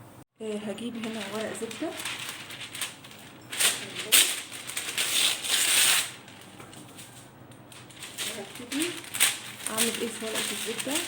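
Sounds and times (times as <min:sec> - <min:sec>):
baking paper crinkling: 0:00.6 - 0:11.0.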